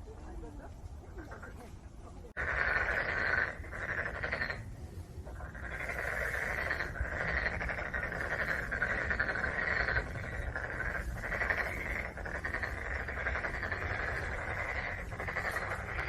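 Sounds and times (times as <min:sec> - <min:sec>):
frogs croaking: 0:02.4 - 0:16.0.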